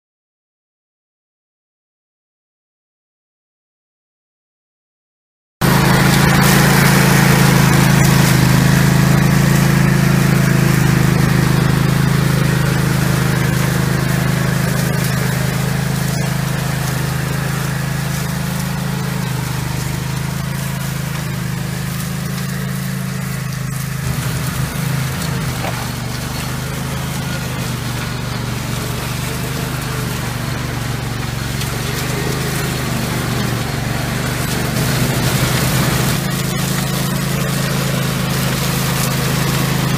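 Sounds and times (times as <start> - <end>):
ride-on mower engine droning: 5.6 - 39.9.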